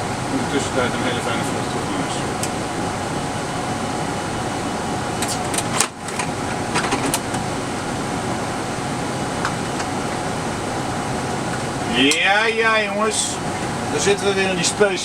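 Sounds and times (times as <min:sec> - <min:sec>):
air-conditioning hiss and hum: 0:00.0 - 0:15.0.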